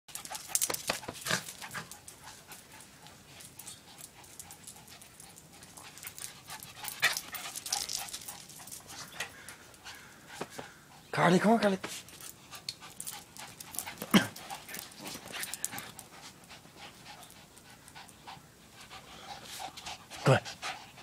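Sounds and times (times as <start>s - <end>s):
dogs scuffling and scraping: 0.1s - 18.0s
dogs panting: 0.1s - 21.0s.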